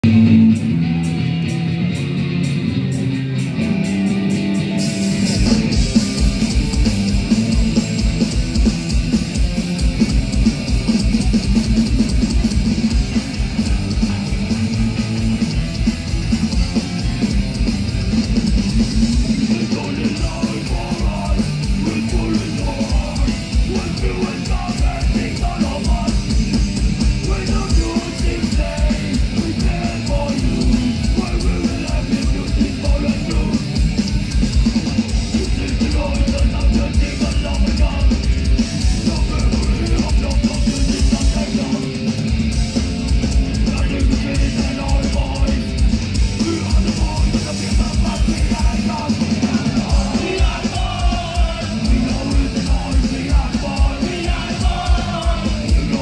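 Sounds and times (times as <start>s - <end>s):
distorted electric guitar: 0.0s - 56.0s
drums with cymbals: 0.0s - 56.0s
live rock band: 0.0s - 56.0s.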